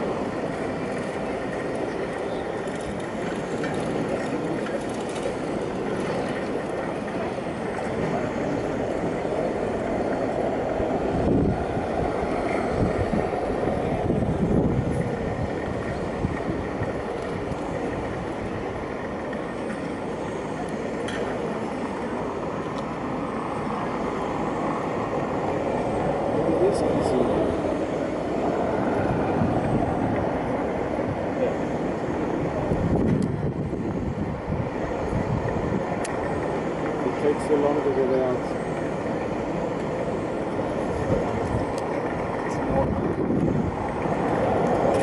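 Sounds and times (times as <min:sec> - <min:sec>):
street background rumble and hiss: 0:00.0 - 0:45.0.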